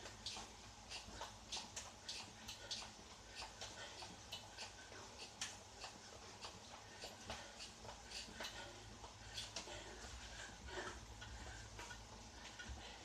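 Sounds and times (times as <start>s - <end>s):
exercise bike ticking: 0.0s - 13.0s
low steady hum: 0.0s - 13.0s.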